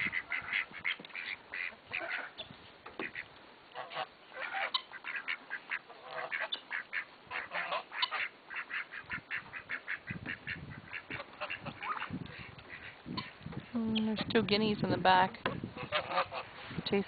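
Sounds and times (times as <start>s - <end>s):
geese honking: 0.0s - 13.4s, 15.4s - 16.6s
ducks quacking: 0.0s - 16.6s.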